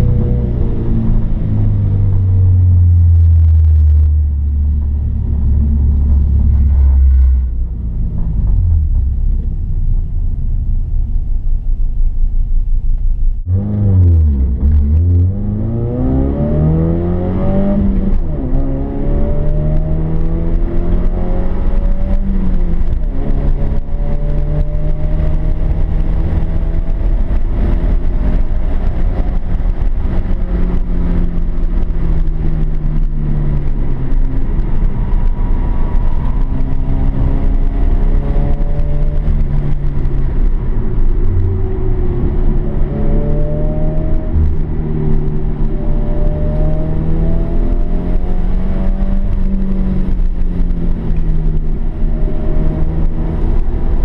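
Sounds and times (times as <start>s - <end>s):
car engine revving in cabin: 0.0s - 10.0s, 13.4s - 54.0s.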